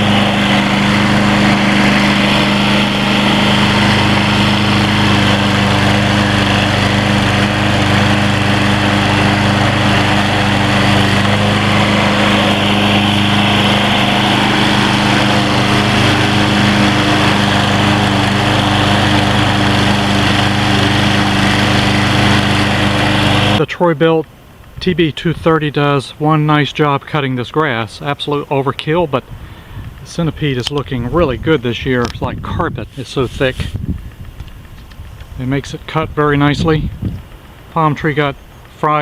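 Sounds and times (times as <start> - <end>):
lawn mower cutting grass: 0.0 - 25.8, 27.9 - 39.0.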